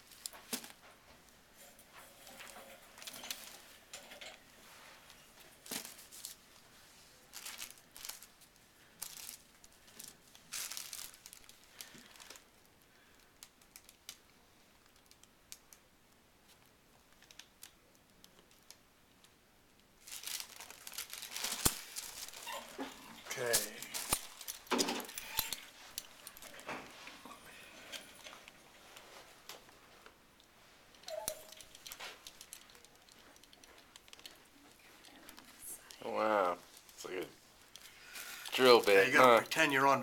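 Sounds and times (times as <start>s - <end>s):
rustling of hand tools: 0.0s - 13.6s, 20.0s - 40.0s.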